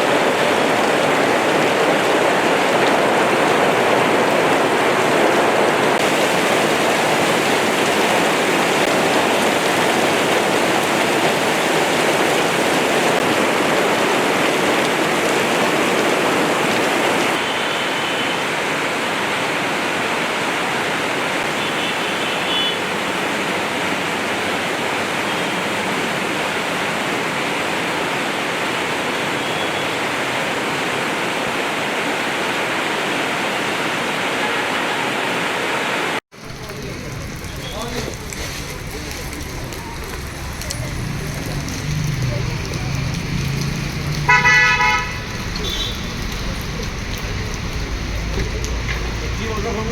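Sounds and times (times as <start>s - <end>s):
torrential rain pouring: 0.0s - 49.9s.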